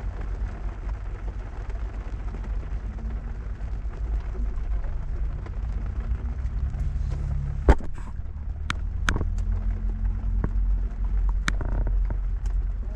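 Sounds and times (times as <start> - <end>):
car idling: 0.0 - 12.9
windshield wiper on wet glass: 0.0 - 12.9.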